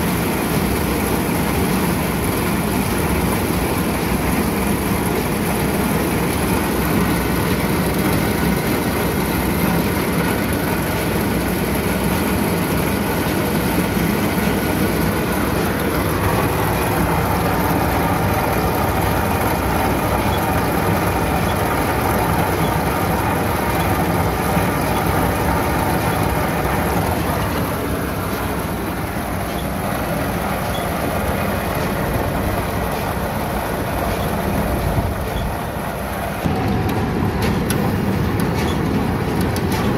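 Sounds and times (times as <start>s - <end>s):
baler chains and rollers turning: 0.0s - 39.9s
tractor engine running: 0.0s - 39.9s.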